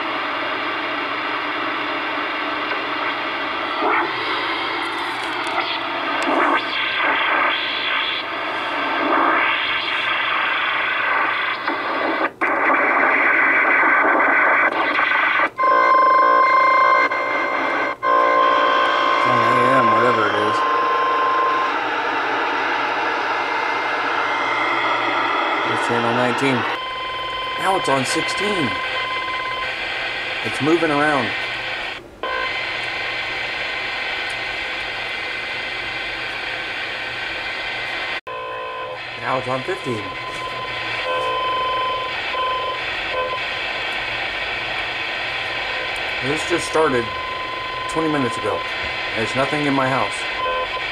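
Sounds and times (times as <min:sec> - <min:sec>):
radio static hiss: 0:00.0 - 0:15.6, 0:18.6 - 0:50.9
multi-pitched electronic whine: 0:00.0 - 0:50.9.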